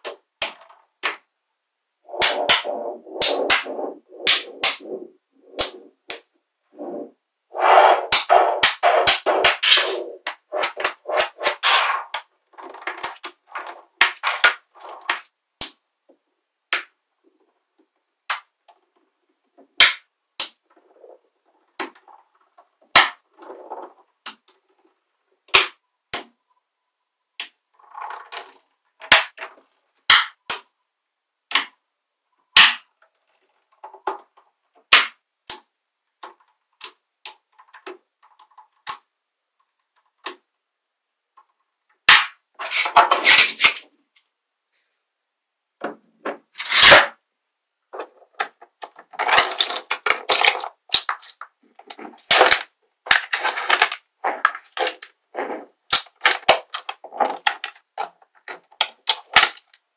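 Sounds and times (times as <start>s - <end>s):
balls rolling and rubbing: 0.0s - 26.4s, 27.4s - 30.8s, 32.4s - 44.4s, 45.6s - 59.9s.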